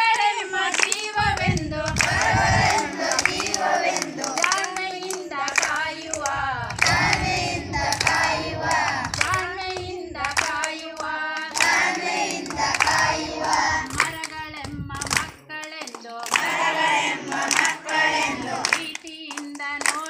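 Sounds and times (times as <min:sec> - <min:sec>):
clap-like accents: 0:00.0 - 0:20.0
voices singing: 0:00.0 - 0:20.0.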